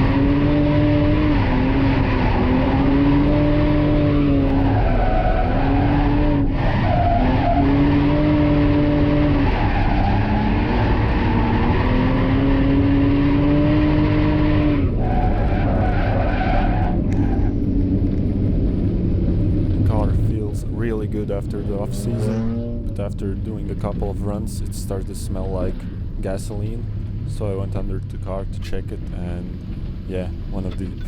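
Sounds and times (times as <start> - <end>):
car engine revving high: 0.0 - 25.6
tyres skidding: 0.0 - 31.0.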